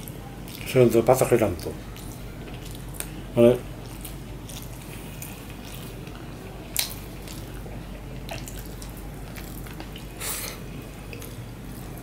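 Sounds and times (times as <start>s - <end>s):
wet chewing and lip-smacking: 0.0s - 0.8s, 1.6s - 3.2s, 3.8s - 12.0s.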